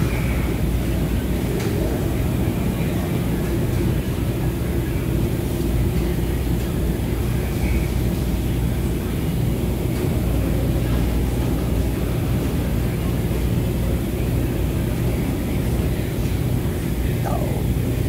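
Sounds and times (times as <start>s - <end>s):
washers and dryers rumbling: 0.0s - 18.0s.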